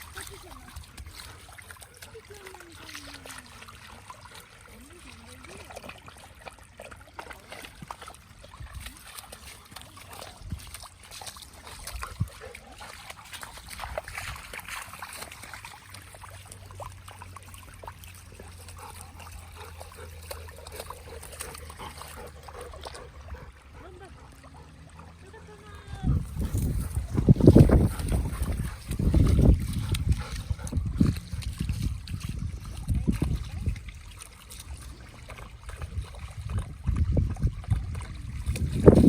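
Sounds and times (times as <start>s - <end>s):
dog splashing in water: 0.0s - 39.0s
shallow water trickling: 0.0s - 39.0s.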